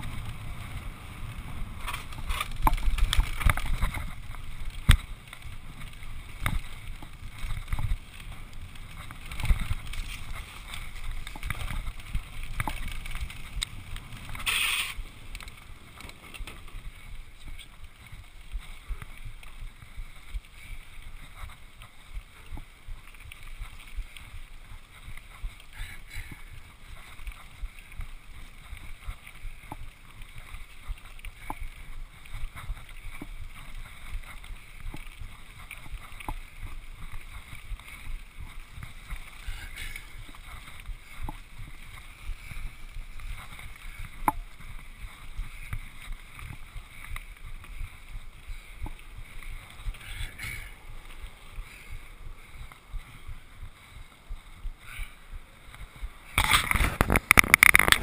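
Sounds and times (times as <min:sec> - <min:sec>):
bike clicks and rattles: 0:00.0 - 0:58.0
bike tyres on gravel: 0:00.0 - 0:58.0
wind on microphone: 0:00.0 - 0:58.0.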